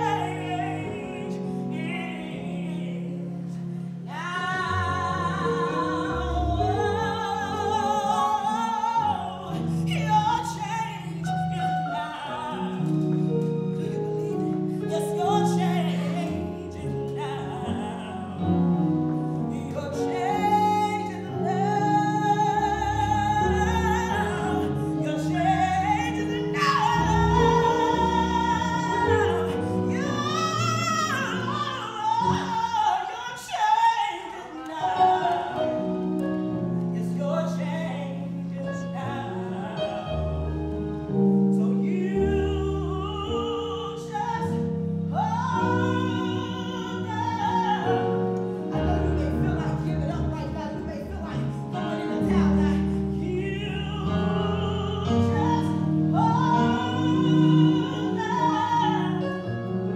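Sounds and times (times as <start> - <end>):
woman singing with vibrato: 0.0 - 59.9.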